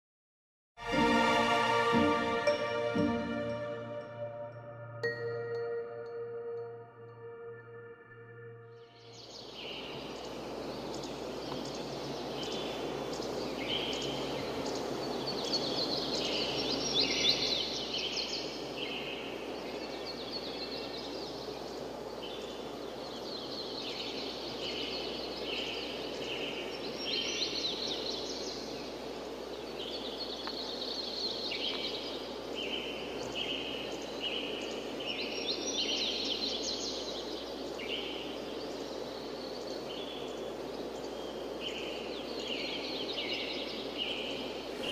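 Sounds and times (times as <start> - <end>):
bird-like chirps and trills: 2.0 - 44.9.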